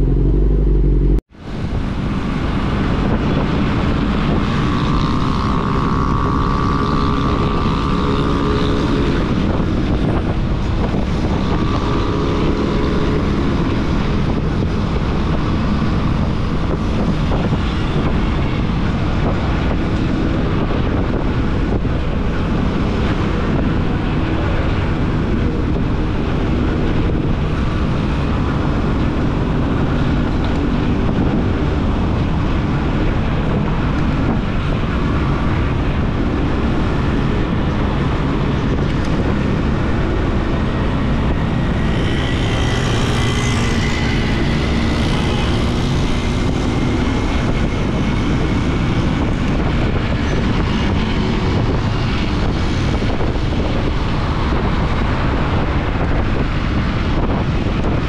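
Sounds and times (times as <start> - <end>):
motorcycle engine: 0.0 - 1.2, 3.7 - 54.4
road noise: 0.0 - 58.0
wind rush on microphone: 0.0 - 58.0.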